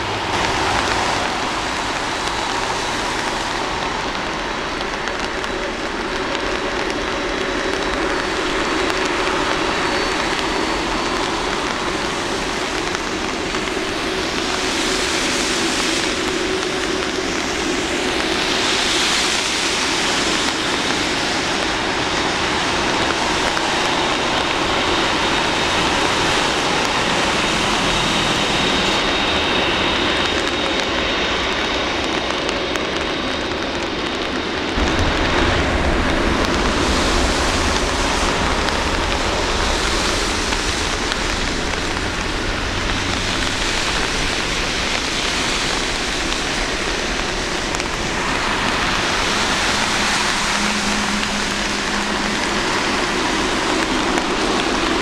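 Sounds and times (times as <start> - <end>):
jet engines running with whine: 0.0 - 55.0
steady rain hiss: 0.0 - 55.0.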